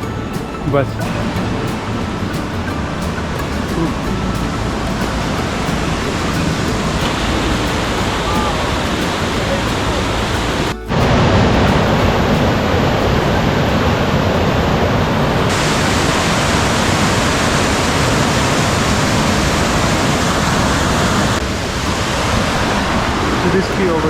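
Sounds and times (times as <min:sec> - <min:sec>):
fast-flowing water rushing: 0:00.0 - 0:24.0.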